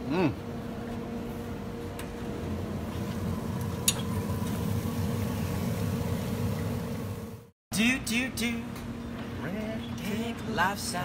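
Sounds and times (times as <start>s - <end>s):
grill humming and rushing: 0.1s - 11.0s.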